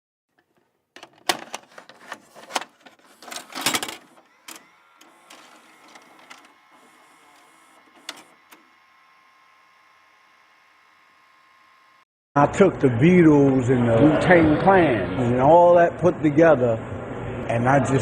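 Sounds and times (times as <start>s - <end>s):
faint hum: 2.9s - 18.0s.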